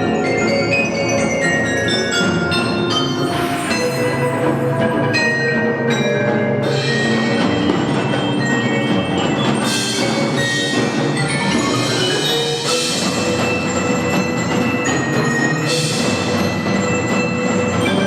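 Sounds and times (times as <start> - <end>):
percussion ensemble playing: 0.0 - 18.0.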